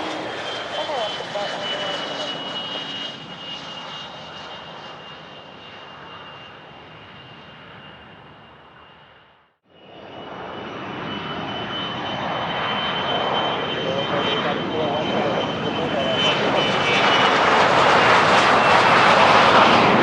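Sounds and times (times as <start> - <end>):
jet engines rushing and whining: 0.0 - 20.0.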